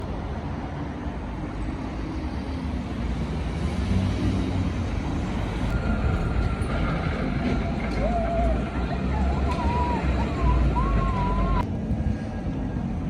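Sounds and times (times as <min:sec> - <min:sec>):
road traffic engines rumbling: 0:00.0 - 0:13.0.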